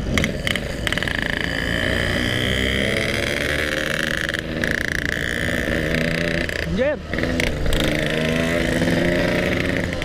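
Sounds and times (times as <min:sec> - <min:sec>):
two-stroke motorcycle engine revving: 0:00.0 - 0:10.0.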